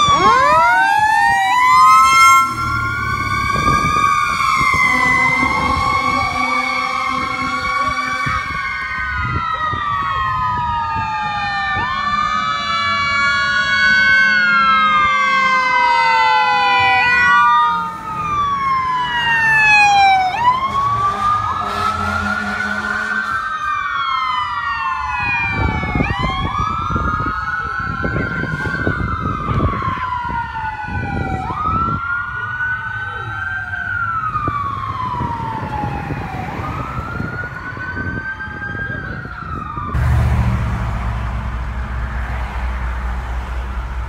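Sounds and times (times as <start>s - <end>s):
electronic sirens wailing: 0.0s - 44.0s.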